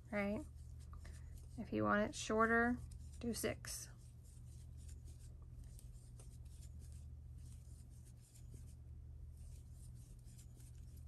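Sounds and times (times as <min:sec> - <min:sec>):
crochet hook rubbing yarn: 0:00.0 - 0:11.0
steady low hum: 0:00.0 - 0:11.0.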